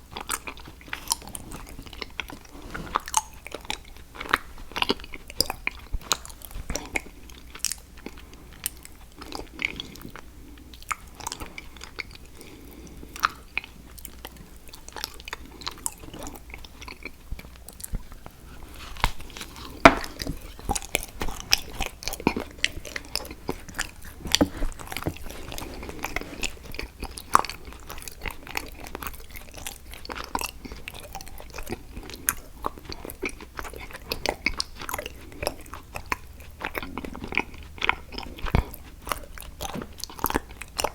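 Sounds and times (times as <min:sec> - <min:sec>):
chewing chocolate with crunches: 0:00.0 - 0:40.9.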